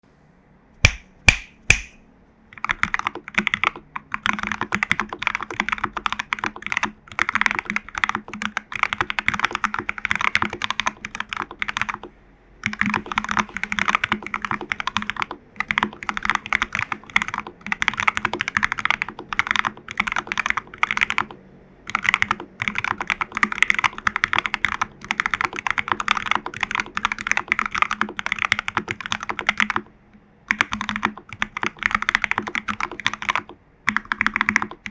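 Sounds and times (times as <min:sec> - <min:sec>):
mechanical keyboard typing: 0:02.5 - 0:29.9, 0:30.5 - 0:34.9.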